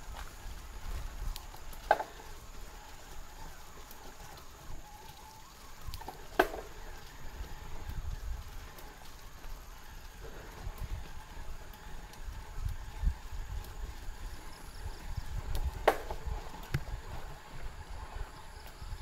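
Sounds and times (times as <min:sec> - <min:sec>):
wind and tyres rumbling: 0:00.0 - 0:19.0.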